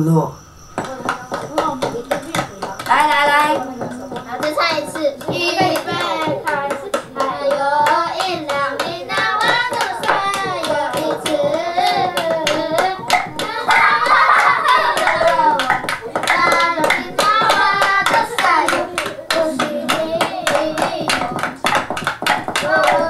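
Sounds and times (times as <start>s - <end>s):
voices singing or chanting: 0.0s - 23.0s
rhythmic hand clapping: 0.7s - 23.0s.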